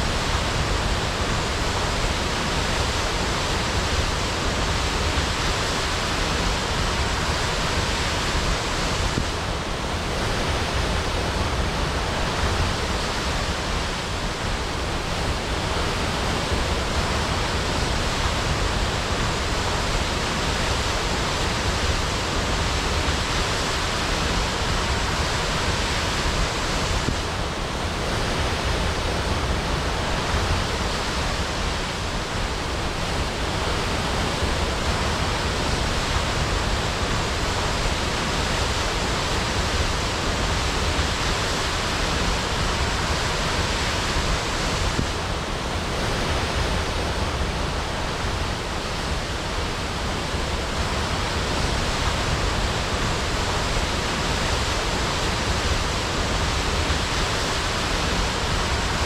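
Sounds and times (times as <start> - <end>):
waterfall crashing: 0.0 - 59.0.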